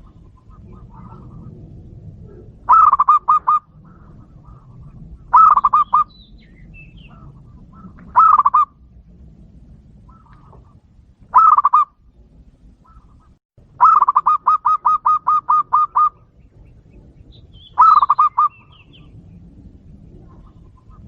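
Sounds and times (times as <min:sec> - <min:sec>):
dove cooing: 0:00.0 - 0:08.8, 0:10.0 - 0:11.9, 0:12.8 - 0:21.0.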